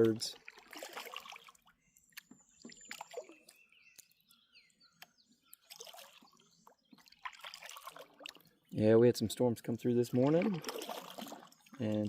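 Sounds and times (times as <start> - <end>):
songbirds chirping: 0.0 - 12.0
water dripping and trickling: 0.0 - 12.0.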